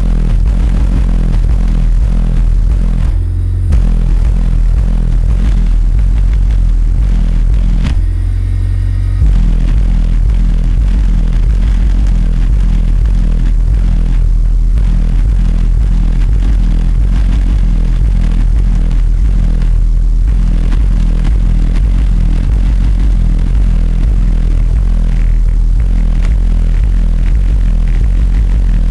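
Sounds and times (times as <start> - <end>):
bass-heavy music from subwoofers: 0.0 - 28.9.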